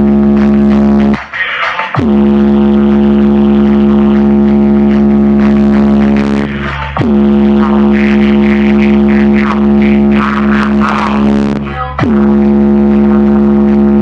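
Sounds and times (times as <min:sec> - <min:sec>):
loud electronic music: 0:00.0 - 0:14.0.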